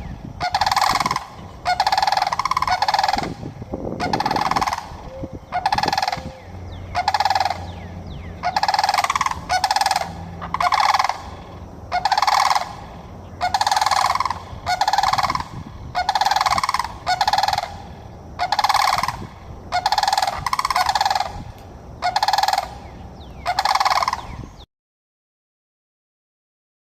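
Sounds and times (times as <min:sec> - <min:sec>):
cranes bugling: 0:00.0 - 0:24.6.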